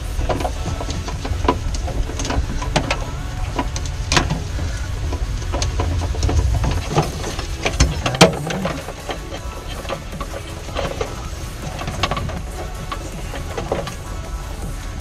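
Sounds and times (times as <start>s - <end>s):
low steady rumble: 0.0s - 15.0s
wiring clicking and rattling against metal: 0.0s - 15.0s.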